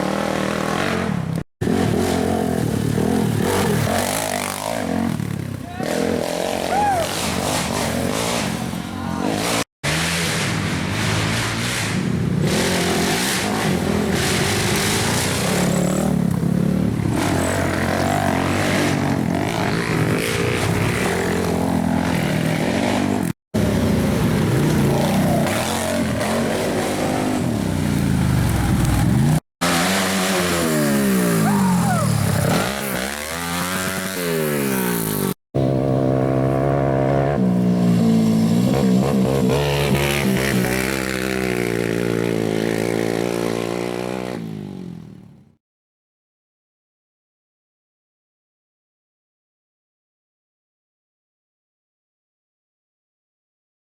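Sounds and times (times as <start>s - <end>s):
atv engines revving: 0.0s - 45.5s.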